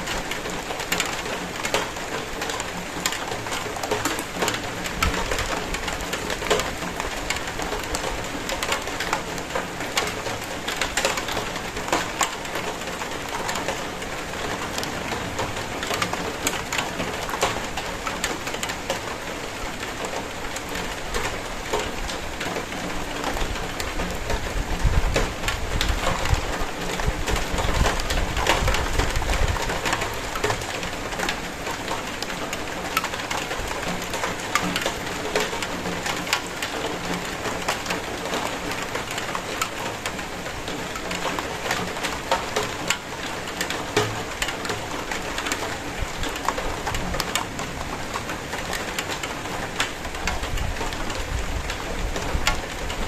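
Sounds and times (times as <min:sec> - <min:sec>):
hiss of downpour: 0:00.0 - 0:53.0
rain drops ticking on hard surface: 0:00.0 - 0:53.0.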